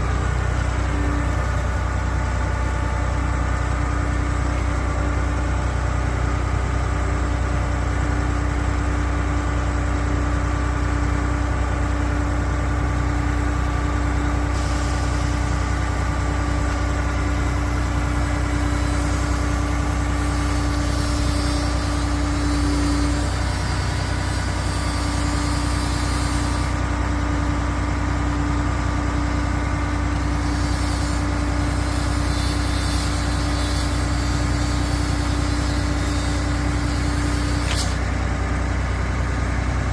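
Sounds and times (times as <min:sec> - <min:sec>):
diesel engine deep hum: 0:00.0 - 0:39.9.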